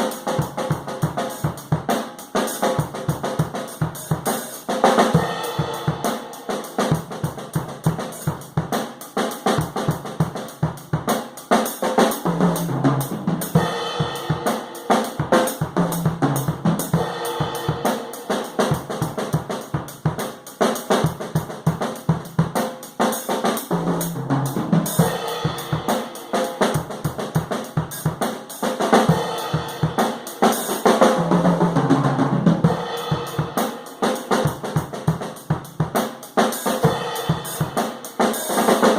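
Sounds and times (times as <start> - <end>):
acoustic drum kit groove: 0.0 - 38.9.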